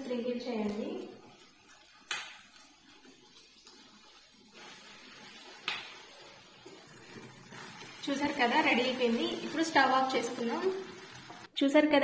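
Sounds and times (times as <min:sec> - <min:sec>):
faint sizzle: 0:00.0 - 0:11.6.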